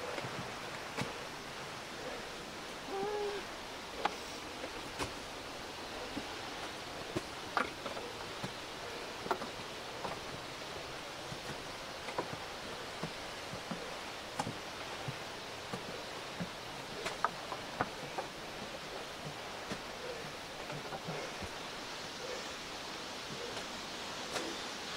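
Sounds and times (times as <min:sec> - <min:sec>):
mountain stream rushing: 0:00.0 - 0:24.9.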